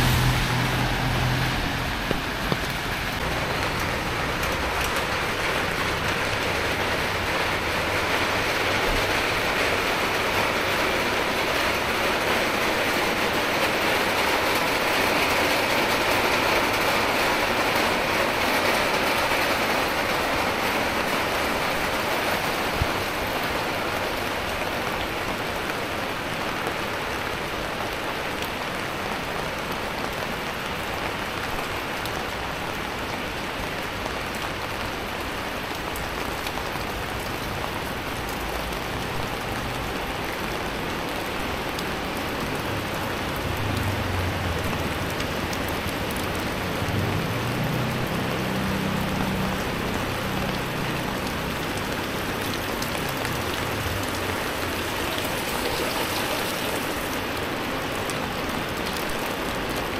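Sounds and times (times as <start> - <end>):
heavy rain on an umbrella: 0.0 - 59.9.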